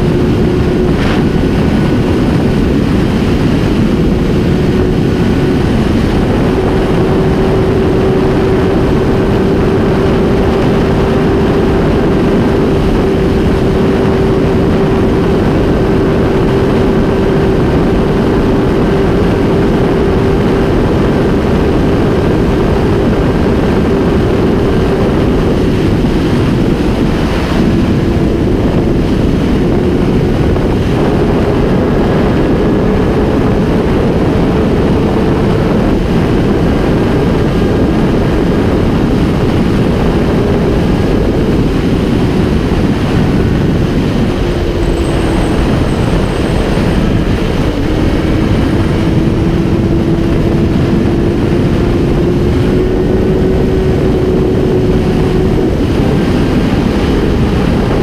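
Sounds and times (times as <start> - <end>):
motorcycle engine at high revs: 0.0 - 58.0
wind rush on microphone: 0.0 - 58.0.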